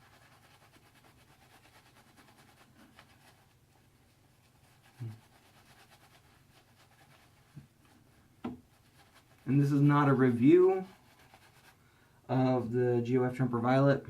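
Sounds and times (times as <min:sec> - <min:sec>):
shaving brush swishing lather: 0:00.0 - 0:11.8.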